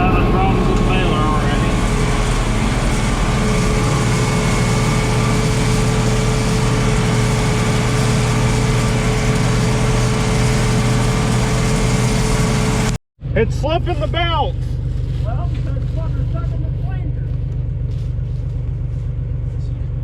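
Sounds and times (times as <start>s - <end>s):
steady whine: 0.0s - 19.9s
tractor engine running: 0.0s - 20.0s.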